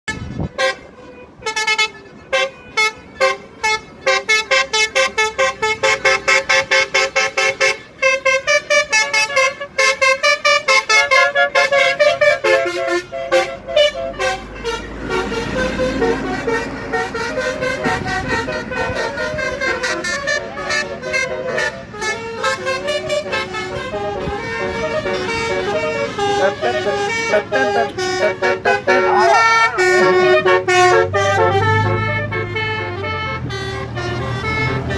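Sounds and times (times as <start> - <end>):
musical bus horn playing a tune: 0.0 - 34.9.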